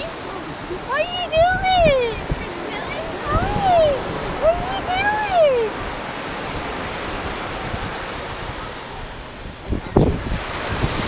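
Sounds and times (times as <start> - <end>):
ocean surf rushing: 0.0 - 11.0
wind buffeting microphone: 0.0 - 11.0.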